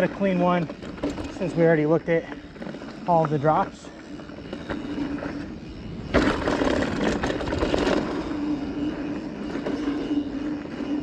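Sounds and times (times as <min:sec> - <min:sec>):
bike and camera mount rattling: 0:00.0 - 0:10.9
bike tyres on dirt: 0:00.0 - 0:11.0
faint steady hum: 0:00.0 - 0:11.0.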